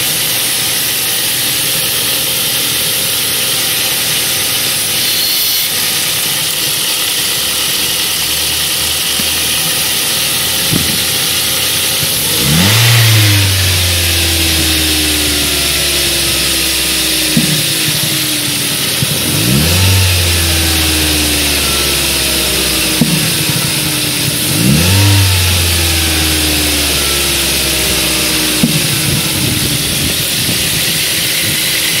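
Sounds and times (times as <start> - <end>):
car engine idling and revving: 0.0 - 32.0
engine popping: 5.7 - 32.0.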